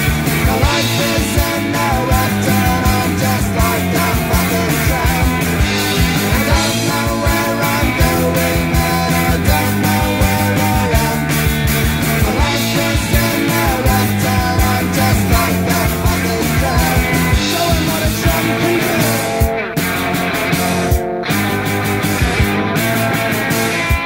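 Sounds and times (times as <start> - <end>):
punk rock band playing: 0.0 - 24.0.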